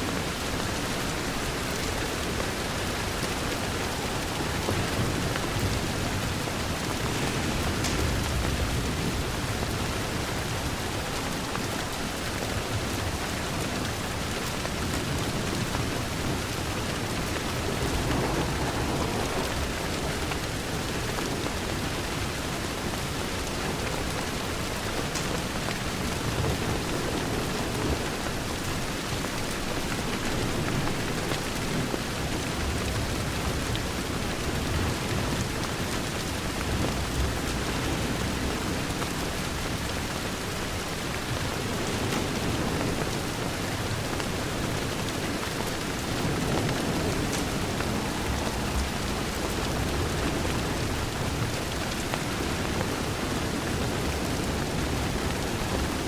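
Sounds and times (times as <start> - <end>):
heavy rain on a window: 0.0 - 56.0.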